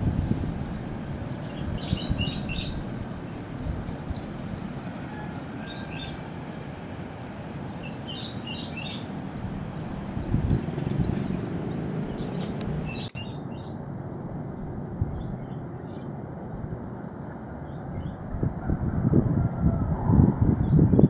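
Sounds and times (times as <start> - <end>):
small birds chirping: 1.3 - 18.8.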